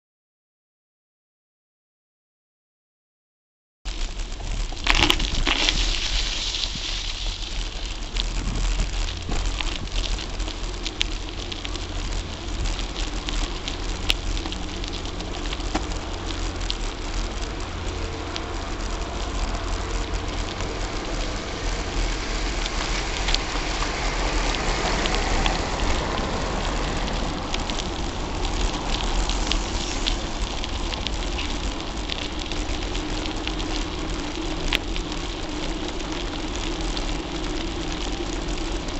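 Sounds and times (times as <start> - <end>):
bike tyres hissing on road: 3.9 - 38.9
low rumble: 3.9 - 38.9.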